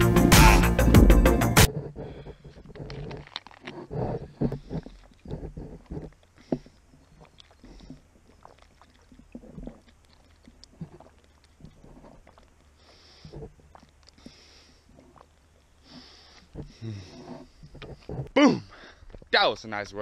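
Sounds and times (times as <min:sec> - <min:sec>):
person gulping water: 0:00.0 - 0:19.3.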